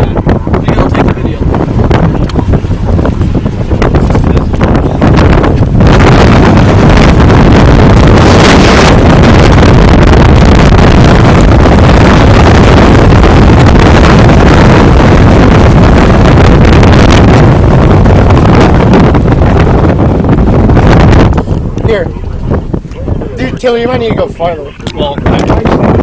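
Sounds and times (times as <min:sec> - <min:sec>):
storm wind blasting microphone: 0:00.0 - 0:26.0.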